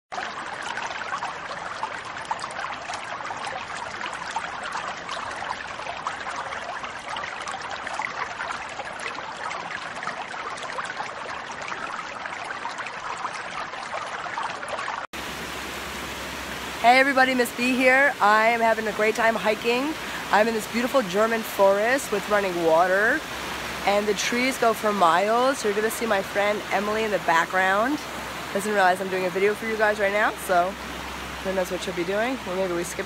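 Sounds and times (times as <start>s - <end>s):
stream babbling over stones: 0.1s - 33.0s.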